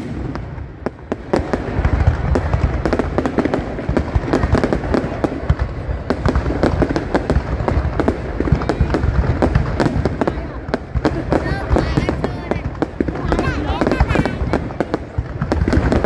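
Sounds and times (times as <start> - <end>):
fireworks booms: 0.0 - 16.0
fireworks crackling: 0.0 - 16.0.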